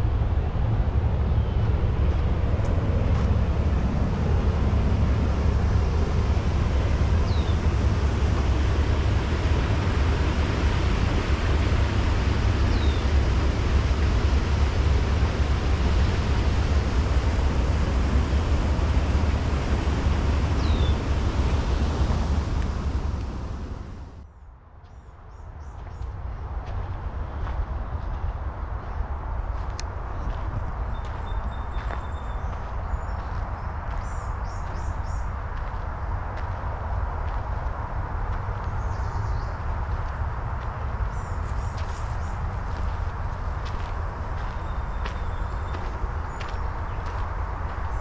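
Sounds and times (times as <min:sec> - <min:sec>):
deep low rumble: 0:00.0 - 0:24.3, 0:25.7 - 0:48.0
outdoor rushing noise: 0:00.0 - 0:24.3, 0:25.7 - 0:48.0.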